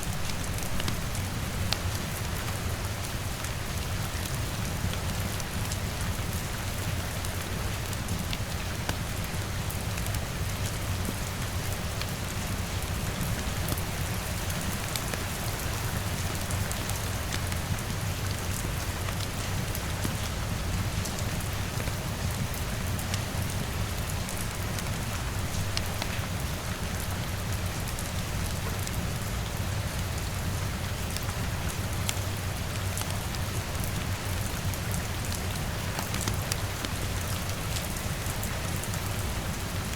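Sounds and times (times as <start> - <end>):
rain on a window: 0.0 - 39.9
wood fire crackles: 0.0 - 39.9.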